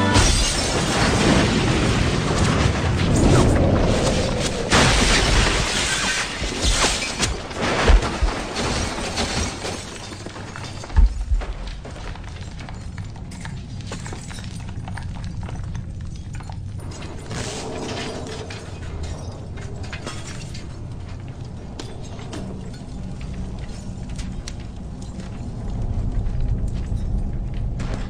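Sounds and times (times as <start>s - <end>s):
clattering debris pieces: 0.0s - 28.0s
rush of flying debris: 0.0s - 28.0s.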